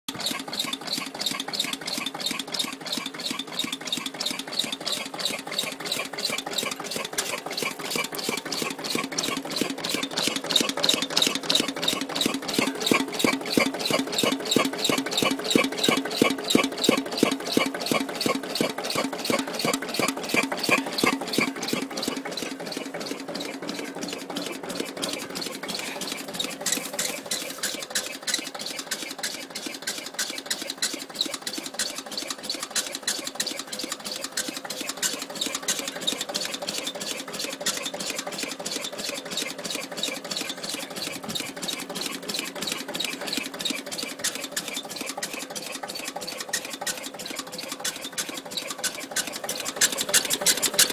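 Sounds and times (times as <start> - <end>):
diesel engine running: 0.1 - 50.9
oil pump arm squeak: 0.1 - 50.9.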